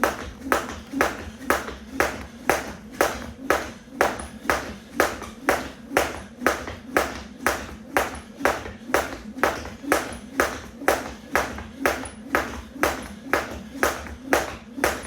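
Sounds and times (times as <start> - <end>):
jump rope slapping the floor: 0.0 - 15.0.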